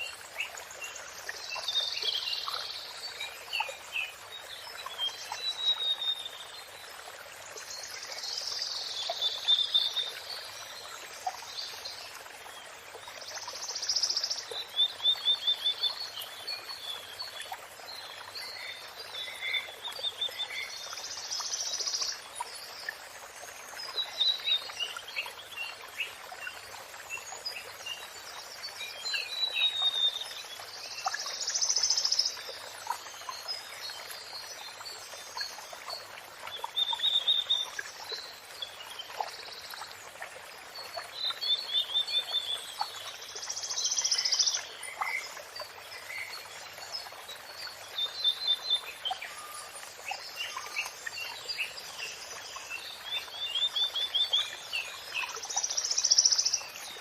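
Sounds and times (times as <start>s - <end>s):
running water hiss: 0.0s - 57.0s.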